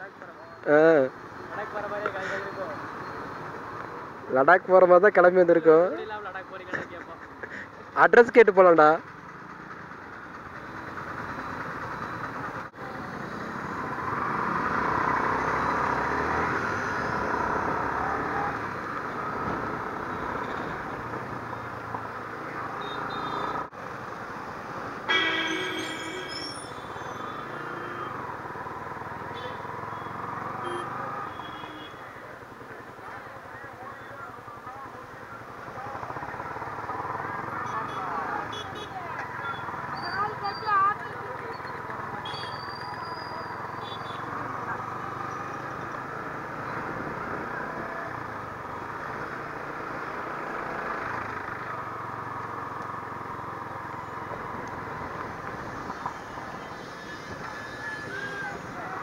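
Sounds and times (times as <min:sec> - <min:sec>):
street traffic noise: 0:00.0 - 0:59.0.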